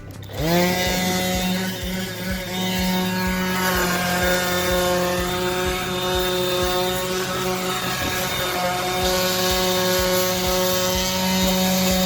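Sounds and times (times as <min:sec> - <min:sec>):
orbit sander whining: 0:00.0 - 0:12.0.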